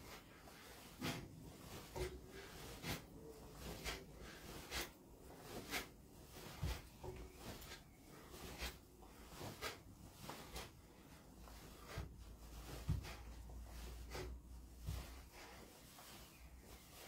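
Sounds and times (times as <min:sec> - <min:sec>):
soft puffs and rustles: 0:00.0 - 0:17.0.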